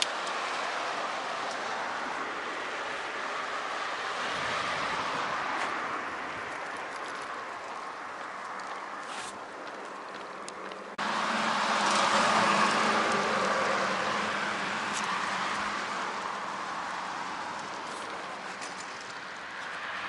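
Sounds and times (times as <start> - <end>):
road traffic noise: 0.0 - 20.0
vehicle passing: 0.0 - 20.0.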